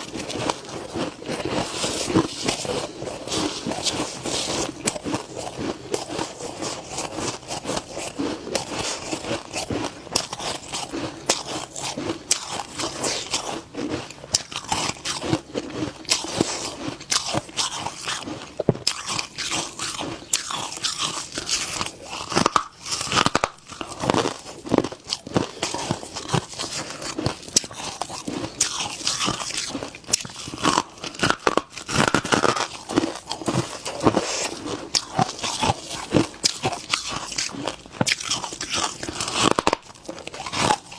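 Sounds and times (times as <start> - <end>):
person chewing frost crunching: 0.0 - 40.9.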